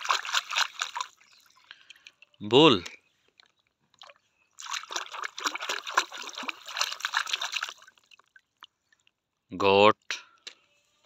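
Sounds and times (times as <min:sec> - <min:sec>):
water splashing in plastic tub: 0:00.0 - 0:09.2.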